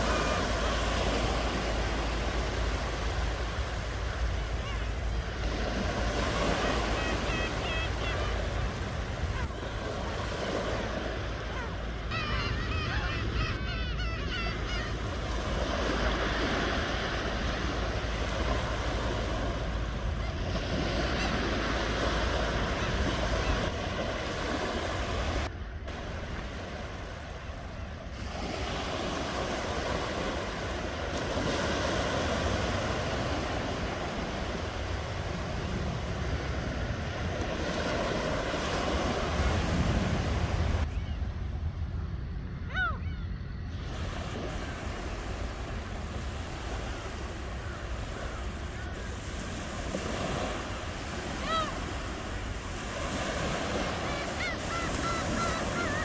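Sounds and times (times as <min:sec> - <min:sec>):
low surf rumble: 0:00.0 - 0:31.1, 0:32.2 - 0:56.0
ocean waves breaking: 0:00.0 - 0:56.0.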